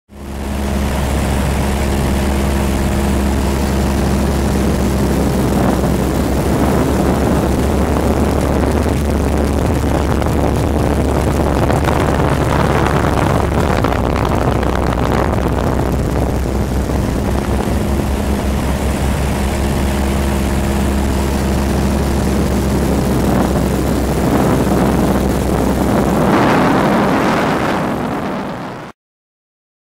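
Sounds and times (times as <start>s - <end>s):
propeller airplane engine hum: 0.1s - 29.0s
rush of air noise: 0.2s - 29.0s.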